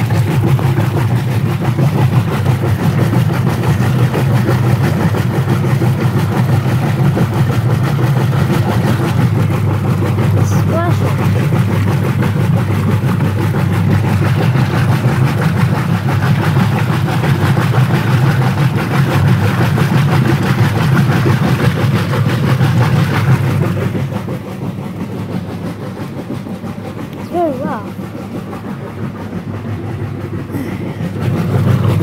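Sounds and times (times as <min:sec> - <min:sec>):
washing machine motor hum: 0:00.0 - 0:32.0
water churning and sloshing: 0:00.0 - 0:32.0.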